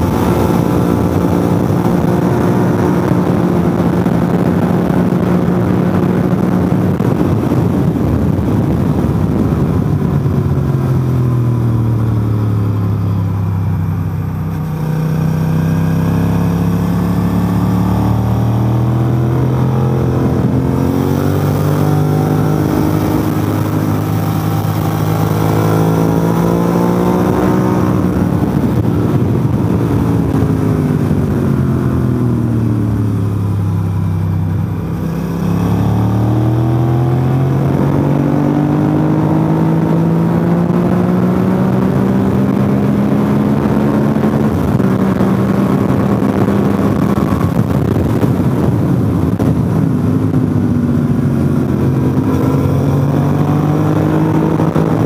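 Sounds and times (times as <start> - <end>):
motorcycle engine at speed: 0.0 - 55.0
wind rush: 0.0 - 55.0.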